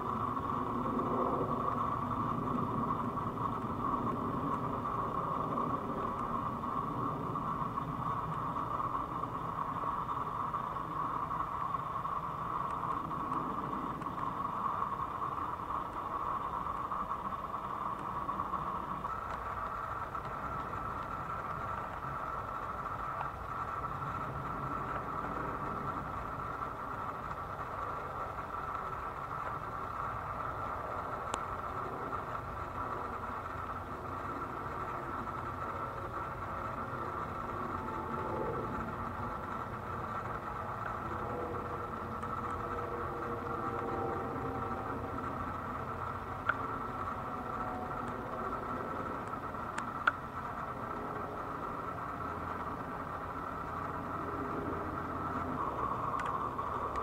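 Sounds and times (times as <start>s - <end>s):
jet airliners overhead: 0.0s - 57.0s.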